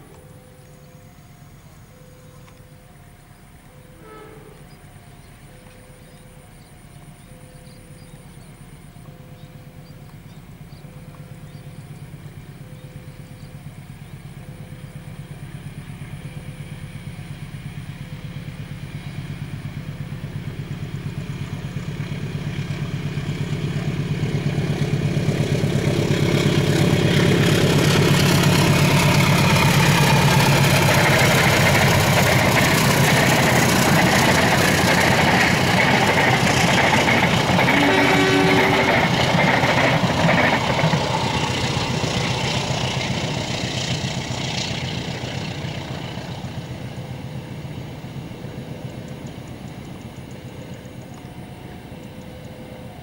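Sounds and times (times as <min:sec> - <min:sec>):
diesel locomotive engine: 0:00.0 - 0:53.0
train wheels rolling over rails: 0:03.6 - 0:53.0.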